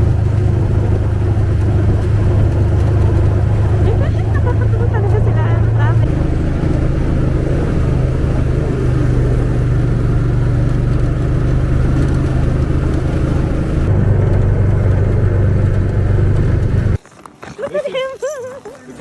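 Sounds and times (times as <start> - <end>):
atv engine humming: 0.0 - 17.0.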